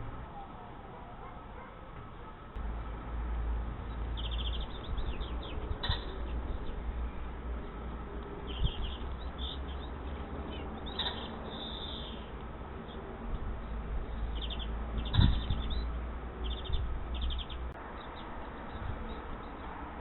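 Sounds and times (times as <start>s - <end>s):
steady low rumble: 0.0s - 19.6s
small birds chirping: 3.8s - 19.8s.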